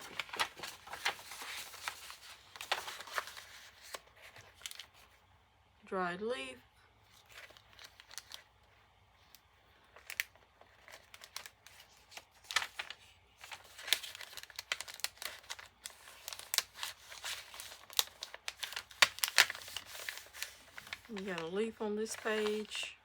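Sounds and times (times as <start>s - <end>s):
paper crinkling and rustling: 0.0s - 5.2s, 7.0s - 22.9s.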